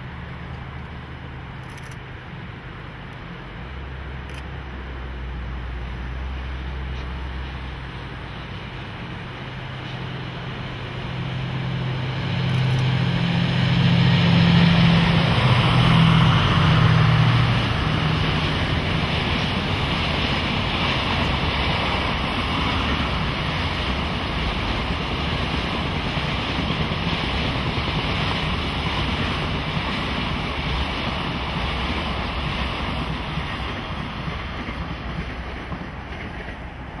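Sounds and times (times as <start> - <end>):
locomotive engine drone: 0.0 - 37.0
wagons rumbling on rails: 0.0 - 37.0.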